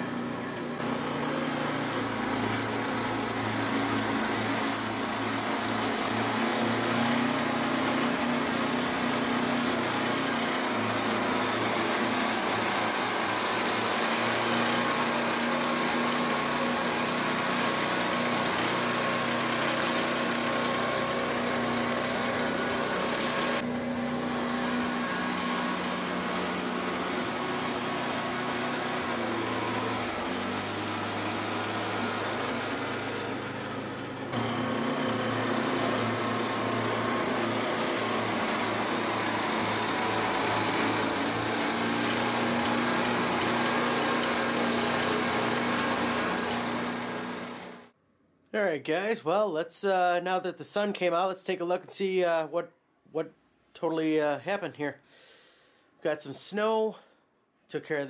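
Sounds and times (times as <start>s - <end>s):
snowblower engine running: 0.0s - 48.0s.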